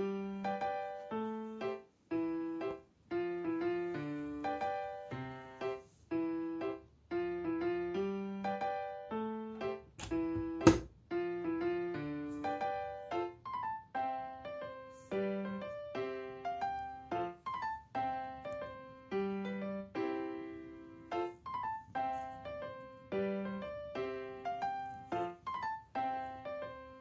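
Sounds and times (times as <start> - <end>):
gentle piano music: 0.0 - 27.0.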